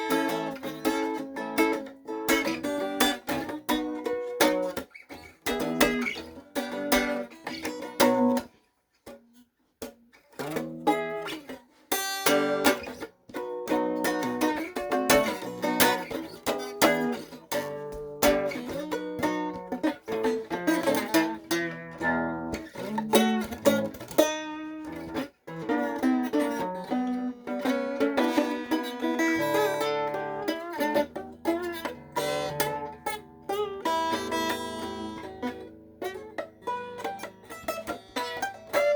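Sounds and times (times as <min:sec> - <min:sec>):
plucked string instrument music: 0:00.0 - 0:38.9.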